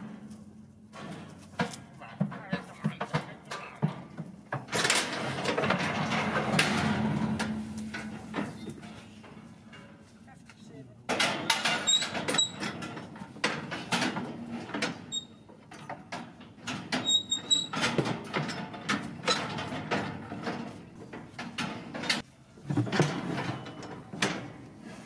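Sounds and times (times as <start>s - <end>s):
knocking and clattering: 0.9s - 10.0s, 11.1s - 24.6s.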